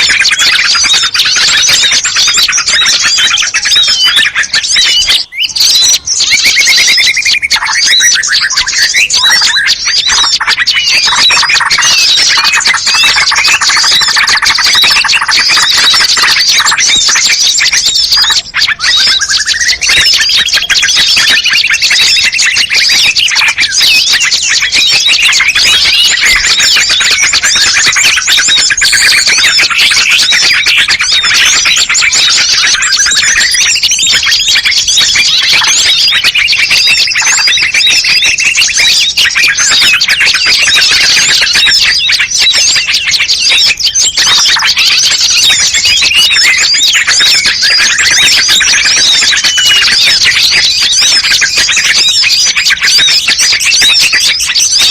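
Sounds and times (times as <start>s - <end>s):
songbirds chattering and calling: 0.0s - 54.9s.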